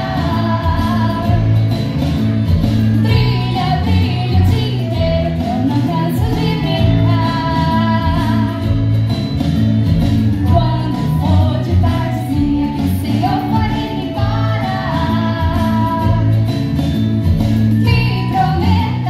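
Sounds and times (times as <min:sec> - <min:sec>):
upbeat children's song: 0:00.0 - 0:09.1, 0:10.0 - 0:16.8, 0:17.4 - 0:19.0
repeating bass line: 0:00.0 - 0:19.0.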